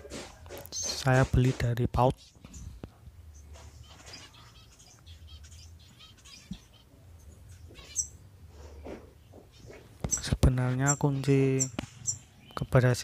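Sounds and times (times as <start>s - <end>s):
finches chirping: 0.6s - 1.1s, 2.0s - 13.0s.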